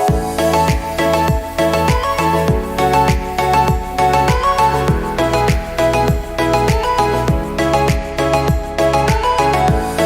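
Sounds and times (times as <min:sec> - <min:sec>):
background music with kick drums: 0:00.0 - 0:10.0.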